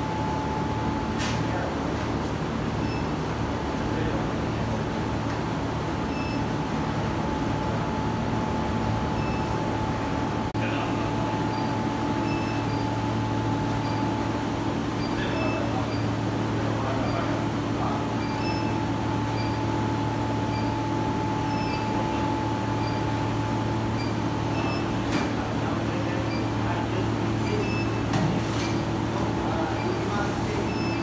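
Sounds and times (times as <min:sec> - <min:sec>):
water chiller humming: 0:00.0 - 0:31.0.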